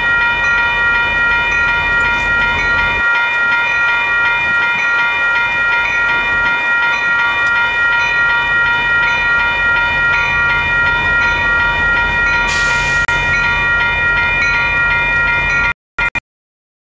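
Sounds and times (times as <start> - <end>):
train rumbling past: 0.0 - 15.7
crossing warning bell ringing: 0.0 - 16.2.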